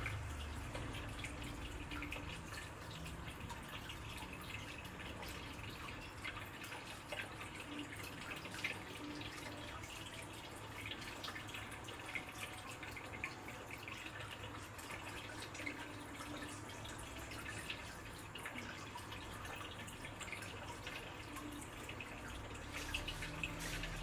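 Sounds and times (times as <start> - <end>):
water dripping and trickling: 0.0 - 24.0.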